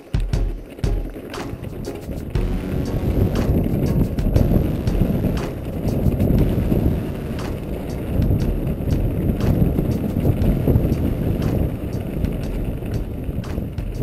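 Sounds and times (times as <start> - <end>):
stones and bike rattling: 0.0 - 2.5, 3.1 - 14.0
tyres rumbling on gravel: 0.0 - 14.0
wind on microphone: 0.0 - 14.0.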